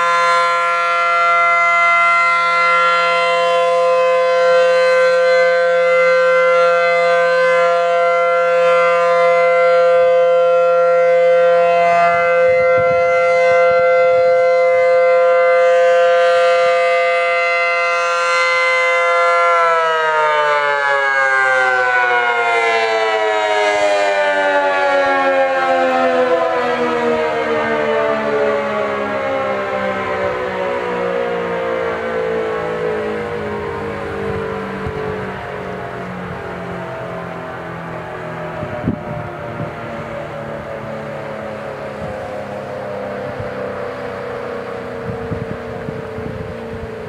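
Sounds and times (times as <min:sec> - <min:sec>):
warning siren winding down: 0:00.0 - 0:47.0.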